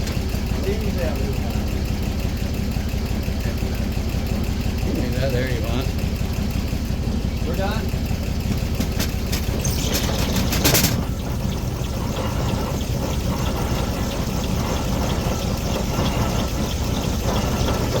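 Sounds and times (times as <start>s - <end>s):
engine driving circular sawmill: 0.0s - 18.0s.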